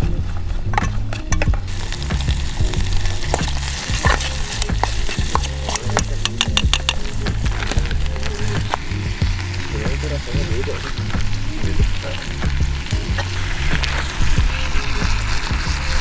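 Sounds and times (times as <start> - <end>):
utensil stirring and clicking on pan: 0.7 - 16.0
food sizzling in a pan: 1.6 - 16.0.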